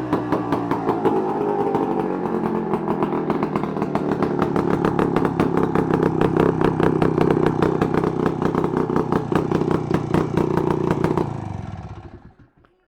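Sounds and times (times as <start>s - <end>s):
two-stroke motorcycle engine running: 0.0s - 12.6s.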